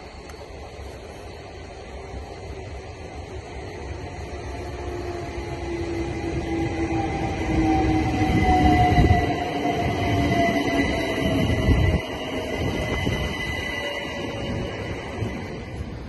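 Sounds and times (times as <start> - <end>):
train traction motor whine: 0.0 - 16.0
train wheels rumbling: 0.0 - 16.0.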